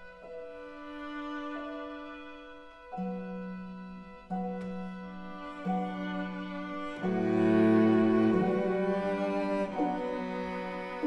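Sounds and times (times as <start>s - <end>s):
bowed strings holding chords: 0.0s - 11.0s.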